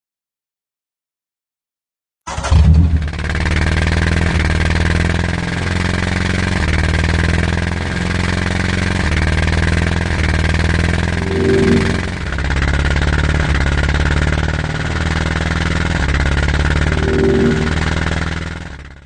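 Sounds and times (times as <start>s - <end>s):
vehicle engine running: 2.5s - 19.0s.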